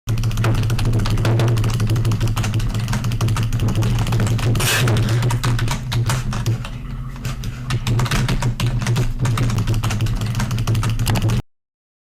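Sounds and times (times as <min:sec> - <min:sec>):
rapid keyboard typing: 0:00.1 - 0:11.4
steady low hum: 0:00.1 - 0:11.4.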